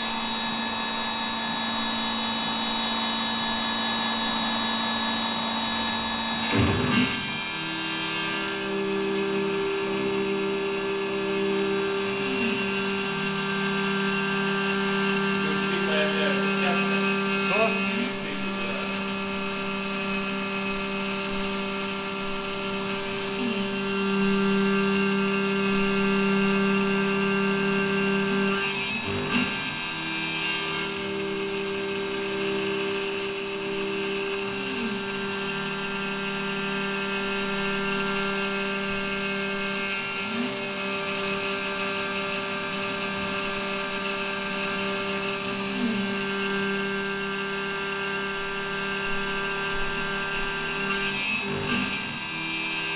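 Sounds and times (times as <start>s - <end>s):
end mill cutting metal: 0.0s - 52.9s
milling machine spindle whine: 0.0s - 52.9s.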